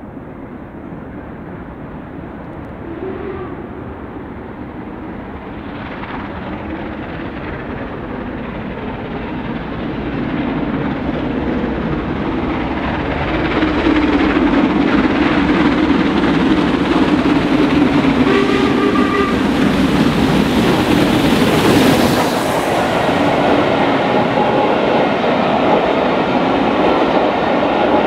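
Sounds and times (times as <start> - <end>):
steam train running: 0.0 - 28.0.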